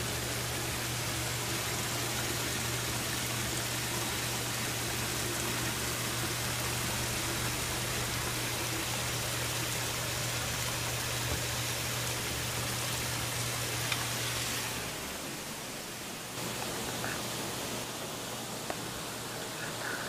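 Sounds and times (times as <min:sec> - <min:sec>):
water rushing and bubbling: 0:00.0 - 0:20.0.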